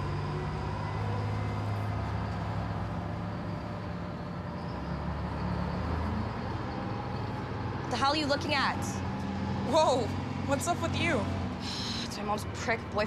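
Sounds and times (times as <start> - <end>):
road rumble: 0.0 - 13.0.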